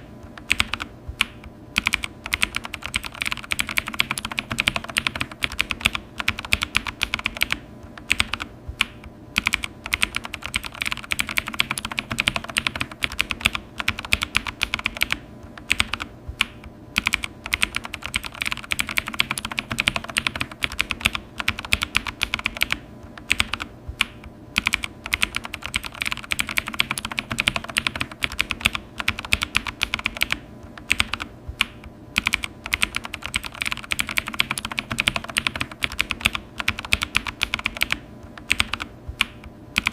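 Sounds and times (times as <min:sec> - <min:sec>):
fast keyboard typing: 0:00.4 - 0:39.9.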